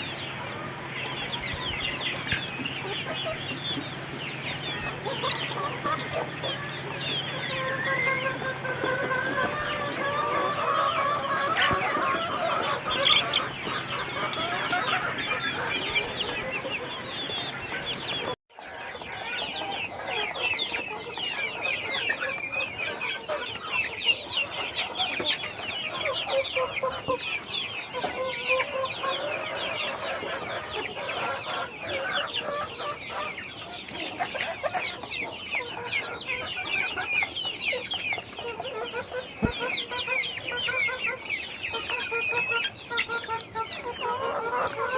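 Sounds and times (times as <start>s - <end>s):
chickens clucking: 0.0s - 44.9s
chicks peeping: 0.0s - 44.9s.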